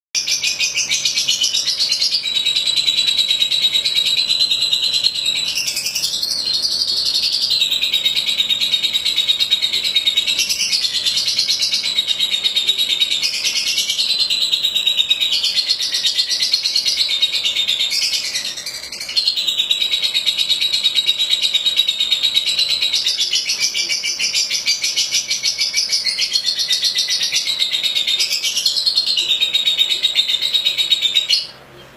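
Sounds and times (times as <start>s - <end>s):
lovebird chattering song: 0.2s - 31.9s.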